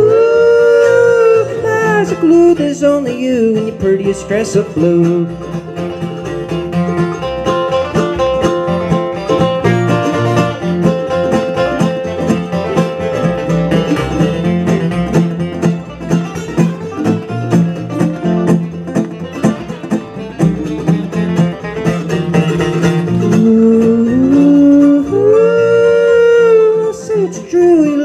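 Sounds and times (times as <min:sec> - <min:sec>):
acoustic guitars picking: 0:00.0 - 0:28.0
mandolin picking: 0:00.0 - 0:28.0
upright bass: 0:00.0 - 0:28.0.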